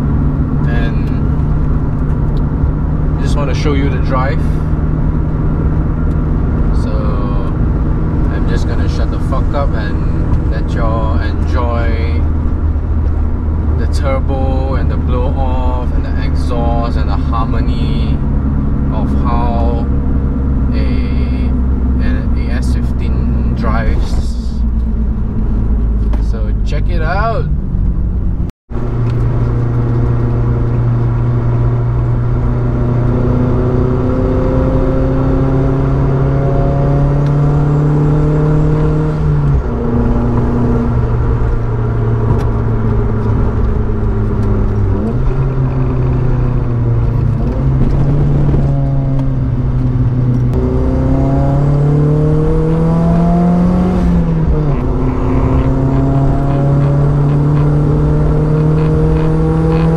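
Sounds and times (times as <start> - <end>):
car engine accelerating through gears: 0.0 - 59.9.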